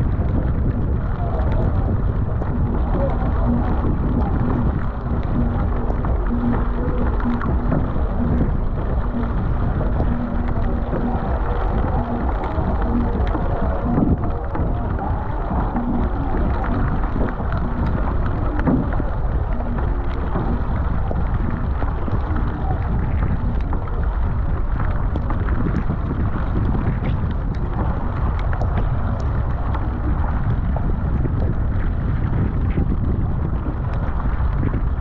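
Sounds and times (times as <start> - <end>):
rain drops ticking: 0.0 - 35.0
wind buffeting microphone: 0.0 - 35.0
paddle strokes splashing water: 0.1 - 35.0.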